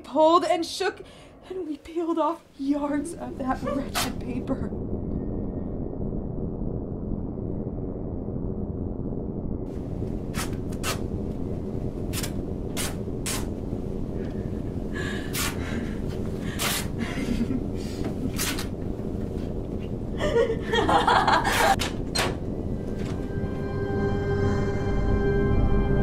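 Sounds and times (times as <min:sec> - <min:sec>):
low drone: 0:00.0 - 0:26.0.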